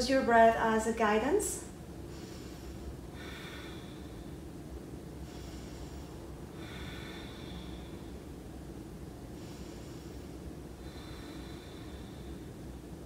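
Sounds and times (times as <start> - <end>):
low room hum: 0.0 - 13.0
woman breathing slowly: 1.7 - 13.0.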